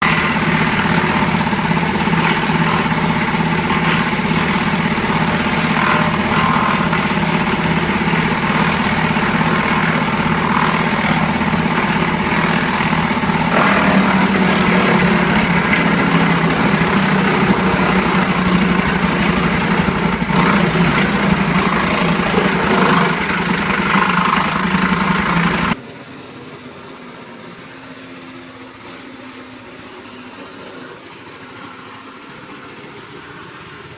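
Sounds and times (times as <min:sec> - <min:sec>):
wood chipper engine running: 0:00.0 - 0:33.9.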